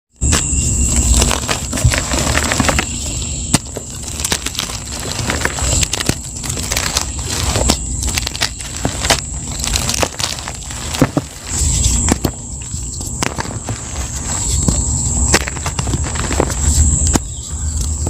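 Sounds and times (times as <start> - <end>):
thin high whine: 0.1 - 18.0
chalk crunching and crackling: 0.2 - 18.0.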